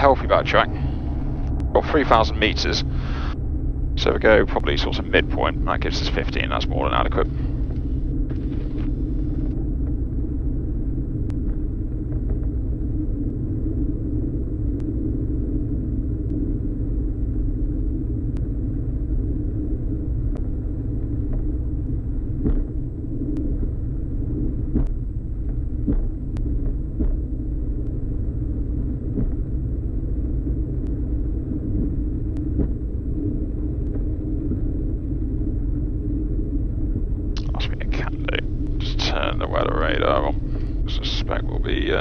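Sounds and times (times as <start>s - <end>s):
aircraft engines rumbling: 0.0s - 42.0s.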